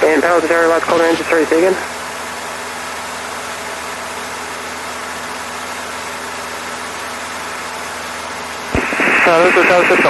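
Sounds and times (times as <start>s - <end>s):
aircraft engine droning in cabin: 0.0s - 10.0s.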